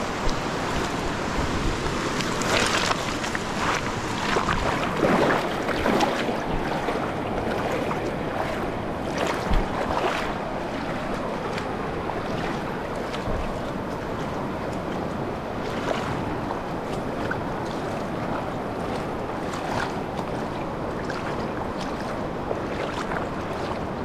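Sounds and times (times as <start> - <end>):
moving water splashing: 0.0 - 24.0
wind buffeting microphone: 0.0 - 24.0.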